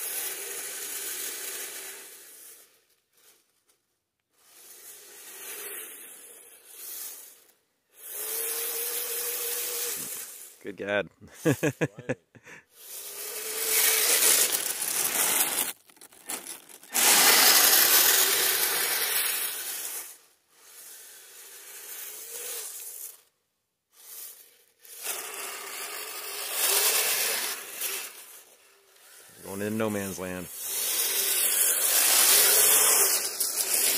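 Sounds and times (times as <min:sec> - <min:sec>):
small electric motors whining: 0:00.0 - 0:10.6, 0:11.4 - 0:11.9, 0:12.6 - 0:23.3, 0:23.9 - 0:33.9
toy trucks grinding through snow: 0:00.0 - 0:33.9.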